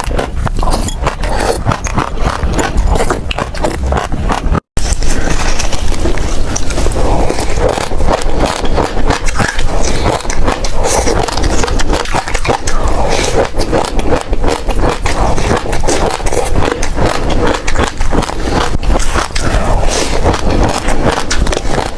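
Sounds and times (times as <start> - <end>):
chewing crunchy seeds: 0.0 - 21.9.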